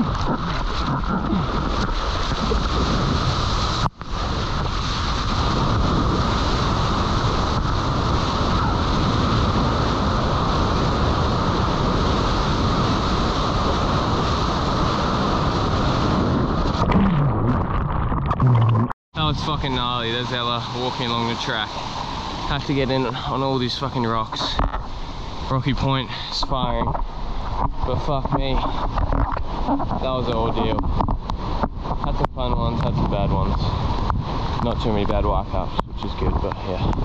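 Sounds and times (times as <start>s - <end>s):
whitewater and wind rushing: 0.0s - 37.0s.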